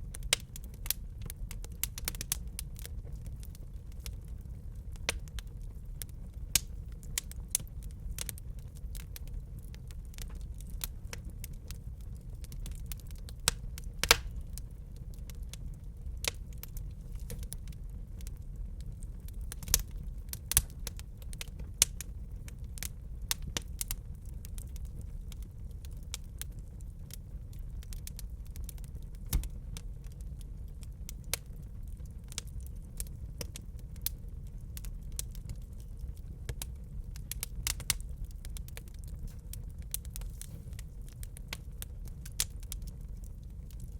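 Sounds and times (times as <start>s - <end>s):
fire crackling and popping: 0.0s - 43.9s
fire rumbling: 0.0s - 43.9s.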